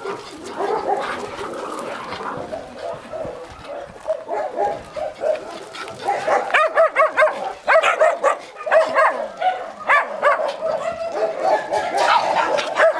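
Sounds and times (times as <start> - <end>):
puppies yipping and barking: 0.0 - 12.9.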